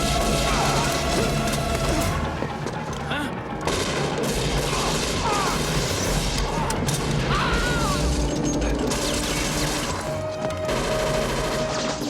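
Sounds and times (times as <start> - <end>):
film music score: 0.0 - 12.0.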